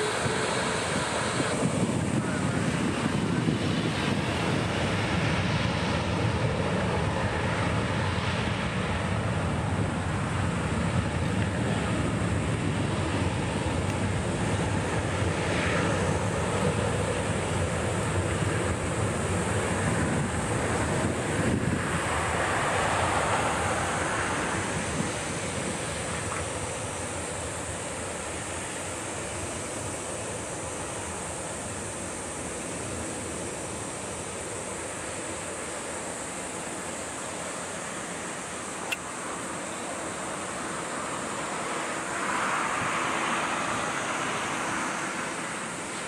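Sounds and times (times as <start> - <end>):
jet engine roar: 0.0 - 46.0.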